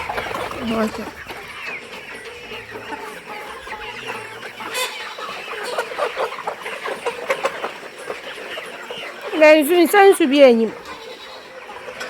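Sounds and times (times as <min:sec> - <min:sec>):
young chickens clucking and chirping: 0:00.0 - 0:12.0.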